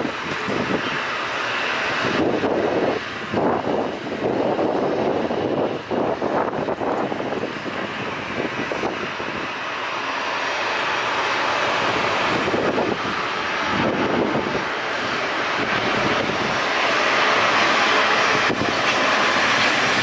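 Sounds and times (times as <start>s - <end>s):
jet engines drone: 0.0s - 20.0s.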